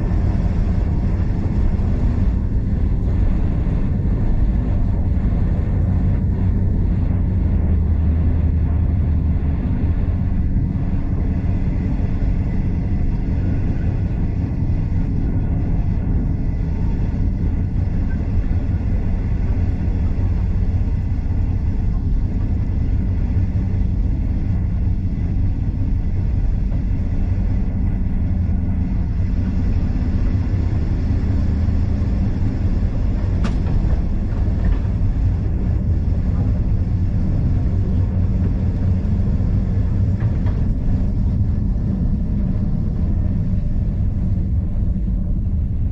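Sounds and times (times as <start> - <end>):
train carriage rumbling on track: 0.0 - 45.9.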